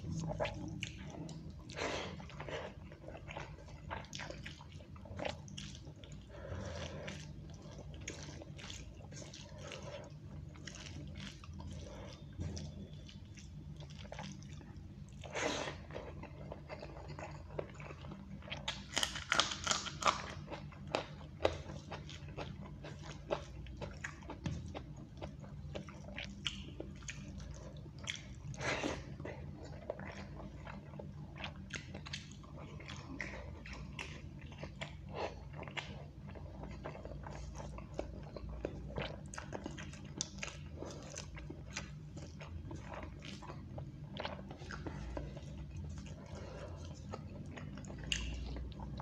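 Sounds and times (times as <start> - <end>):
wet chewing and mouth smacks: 0.0 - 49.0.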